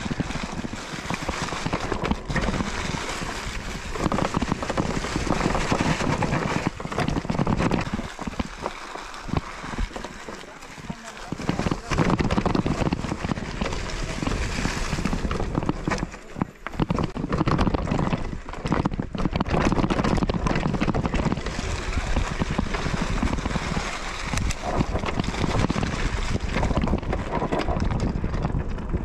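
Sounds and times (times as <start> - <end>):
wind on microphone: 0.0 - 10.1, 10.8 - 29.0
bike rattling and knocking: 0.0 - 29.0.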